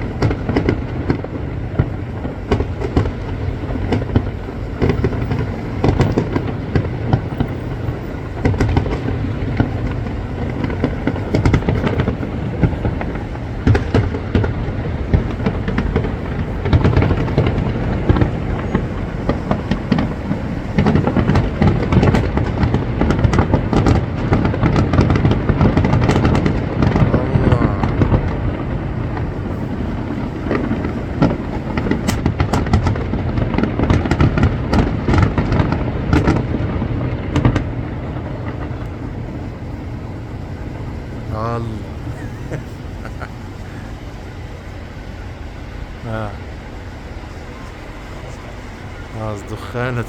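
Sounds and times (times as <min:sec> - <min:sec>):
sharp firework cracks: 0:00.0 - 0:49.1
deep rumble: 0:00.0 - 0:50.0
fireworks booms and crackling: 0:00.0 - 0:50.0.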